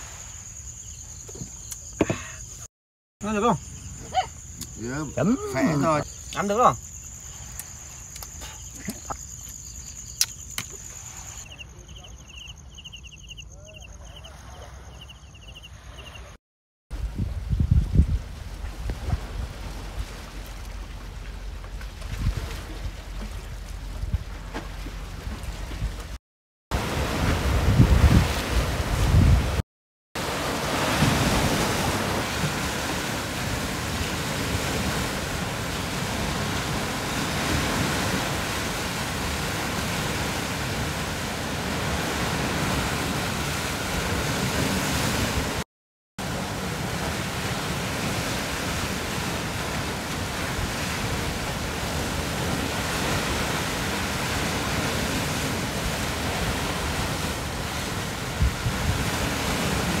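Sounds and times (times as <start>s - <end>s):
sea waves: 0.0s - 2.6s, 3.2s - 16.4s, 18.2s - 29.6s, 30.2s - 45.6s, 46.2s - 60.0s
wind: 0.0s - 29.6s, 30.2s - 60.0s.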